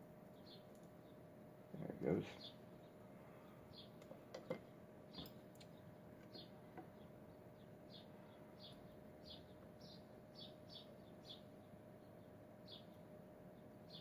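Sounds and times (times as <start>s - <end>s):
low steady hum: 0.0s - 14.0s
bird chirping: 0.2s - 14.0s.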